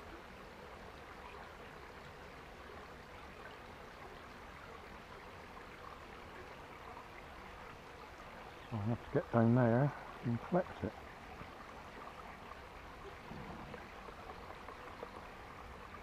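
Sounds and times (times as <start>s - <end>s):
stream trickling: 0.0s - 16.0s.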